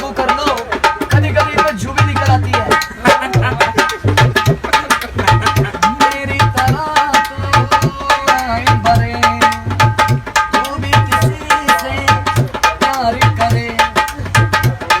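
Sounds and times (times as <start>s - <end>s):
tabla playing fast: 0.0s - 15.0s.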